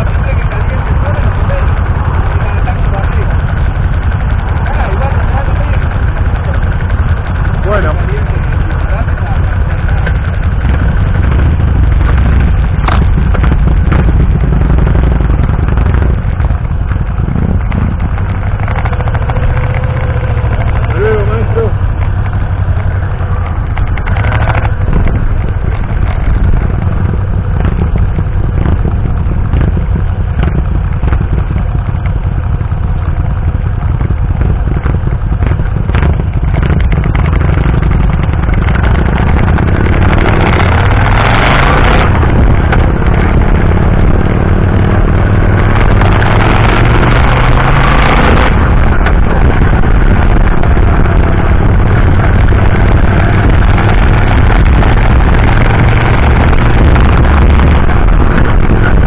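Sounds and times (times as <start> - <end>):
motorcycle engine running: 0.0 - 59.0
wind noise on microphone: 8.9 - 59.0.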